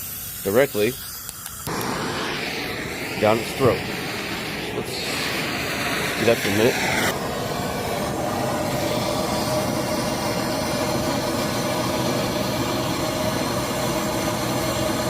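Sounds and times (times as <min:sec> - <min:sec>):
heat gun fan whining: 0:00.0 - 0:15.0
rush of air: 0:01.6 - 0:15.0.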